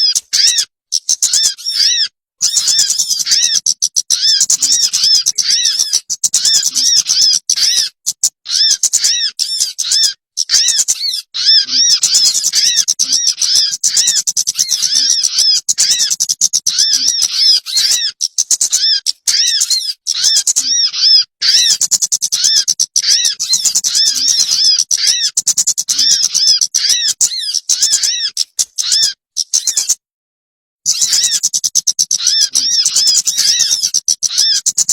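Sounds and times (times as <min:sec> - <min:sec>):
songbird chattering calls: 0:00.0 - 0:30.0, 0:30.9 - 0:34.9.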